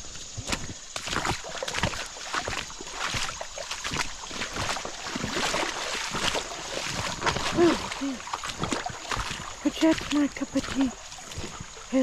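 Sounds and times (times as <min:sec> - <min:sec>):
footsteps wading through water: 0:00.0 - 0:12.0.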